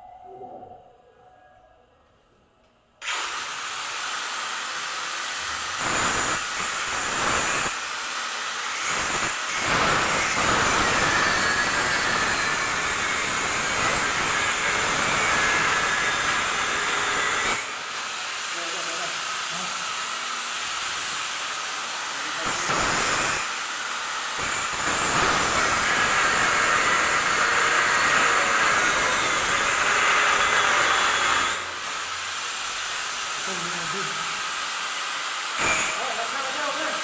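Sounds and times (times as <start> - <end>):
loud steady hissing: 3.1 - 37.0.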